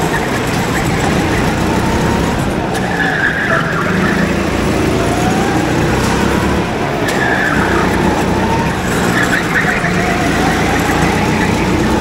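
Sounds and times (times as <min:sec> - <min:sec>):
go-kart engine rumble: 0:00.0 - 0:12.0
tyres squealing: 0:00.0 - 0:12.0.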